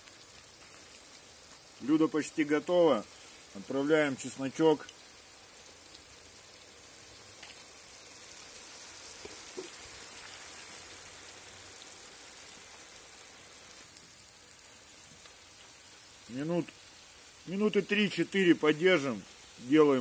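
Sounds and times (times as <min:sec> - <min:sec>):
stew simmering and sizzling: 0:00.0 - 0:20.0.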